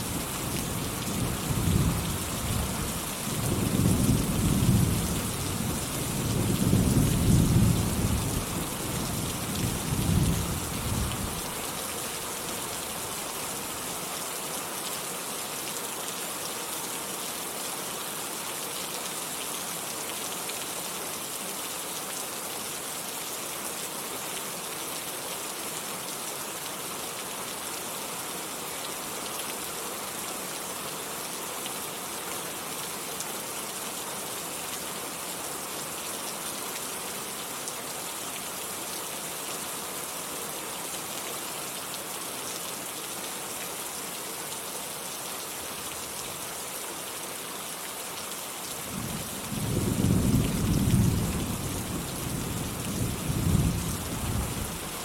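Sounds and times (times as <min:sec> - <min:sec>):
rain hissing and pattering: 0:00.0 - 0:22.9, 0:23.5 - 0:55.0.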